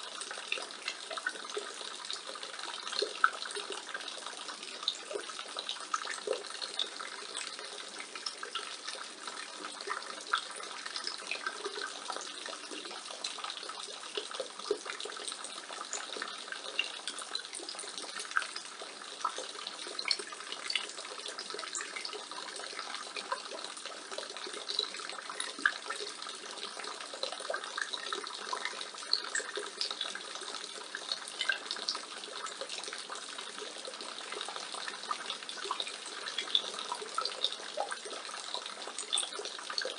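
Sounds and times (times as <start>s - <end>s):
rainwater pouring from a gutter: 0.0s - 39.9s
water splashes and drips: 0.0s - 39.9s.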